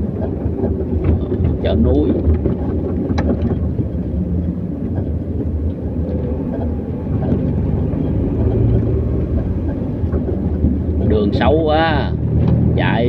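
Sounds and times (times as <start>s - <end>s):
faint knocks from bumps: 0.0s - 11.2s
road and engine rumble: 0.0s - 13.0s.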